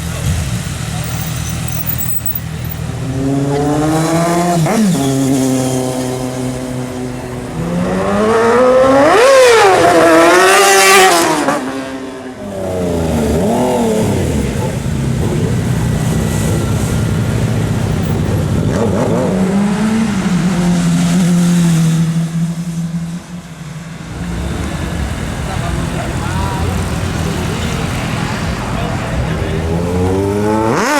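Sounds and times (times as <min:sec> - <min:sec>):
motorcycle engine revving: 0:00.0 - 0:22.8, 0:24.1 - 0:30.9.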